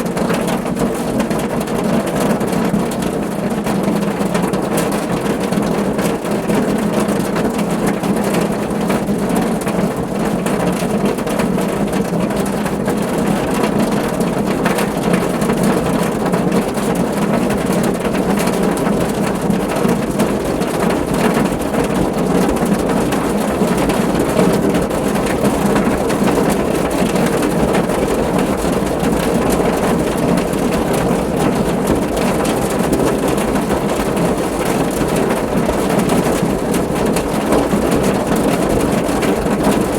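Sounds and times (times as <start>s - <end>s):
heavy rain on a car roof: 0.0s - 39.9s.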